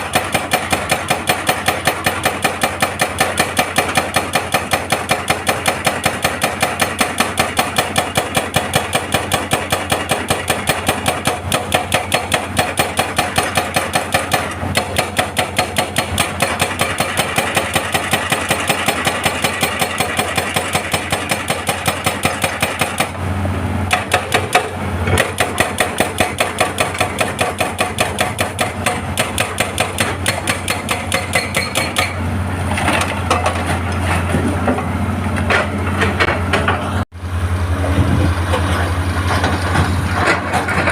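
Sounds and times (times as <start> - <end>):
hydraulic breaker hammering rock: 0.0 - 23.2, 23.9 - 34.5
excavator diesel engine: 0.0 - 40.9.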